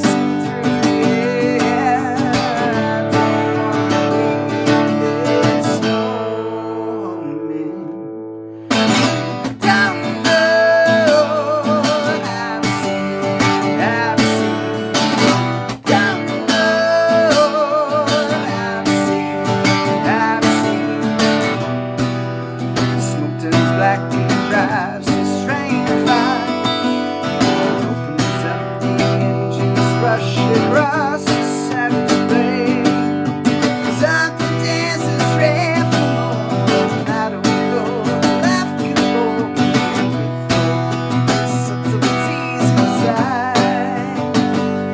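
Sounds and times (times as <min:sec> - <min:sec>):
strummed acoustic guitar: 0:00.0 - 0:44.9.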